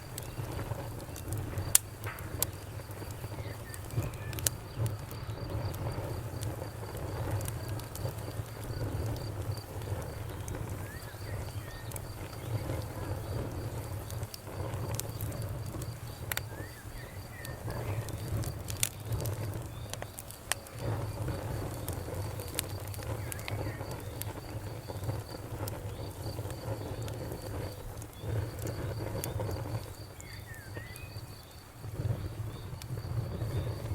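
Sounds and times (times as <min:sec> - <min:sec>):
wood fire crackling and popping: 0:00.0 - 0:33.9.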